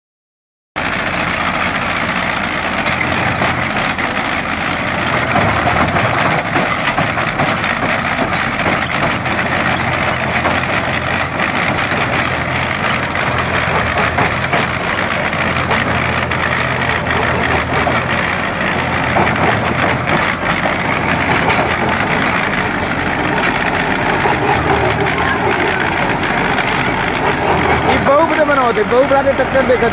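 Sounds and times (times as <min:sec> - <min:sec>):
diesel tractor engine running: 0:00.8 - 0:29.9
trencher chain churning soil: 0:00.8 - 0:29.9.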